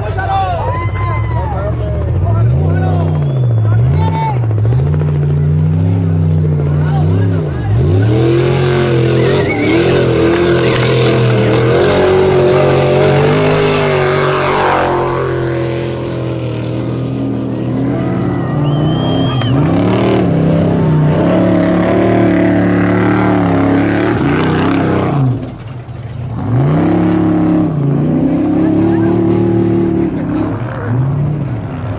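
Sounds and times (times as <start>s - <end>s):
race truck engines revving: 0.0s - 31.9s.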